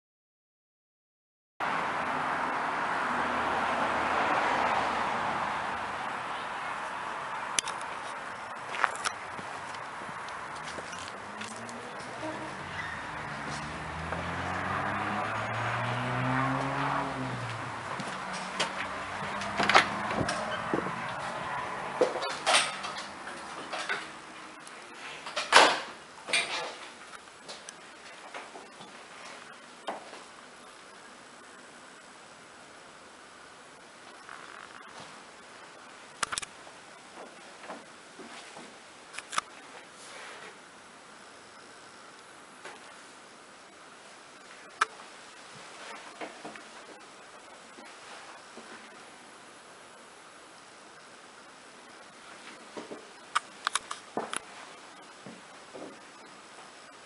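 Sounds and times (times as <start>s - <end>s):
outdoor background hiss: 1.6s - 57.0s.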